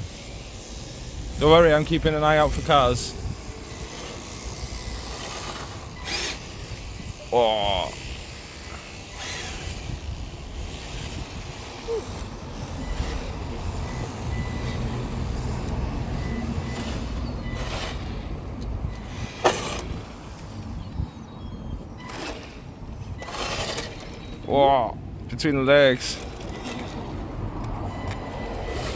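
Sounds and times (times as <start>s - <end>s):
rc car motor and tyres: 0.0s - 28.9s.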